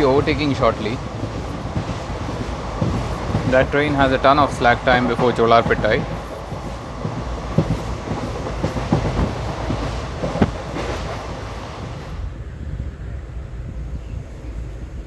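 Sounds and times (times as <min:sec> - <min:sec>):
wheels clacking over rail joints: 0:00.0 - 0:12.2
train rumbling on rails: 0:00.0 - 0:15.0.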